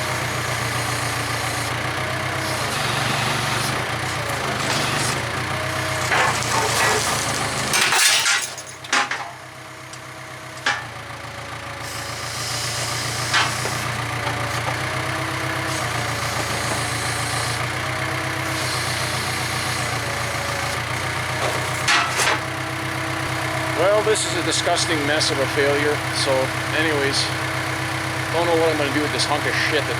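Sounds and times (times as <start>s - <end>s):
diesel engine idling: 0.0s - 29.9s.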